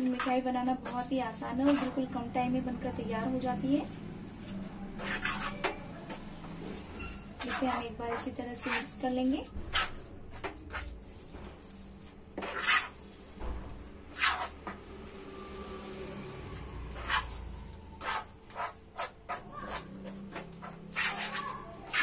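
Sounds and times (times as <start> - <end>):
spatula scraping pan: 0.0 - 2.3, 3.4 - 13.4, 14.1 - 22.0.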